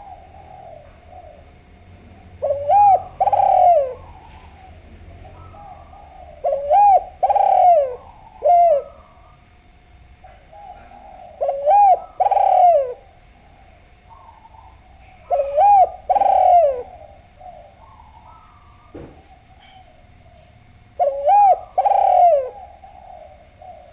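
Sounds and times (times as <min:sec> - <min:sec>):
dove cooing: 0:00.0 - 0:23.9.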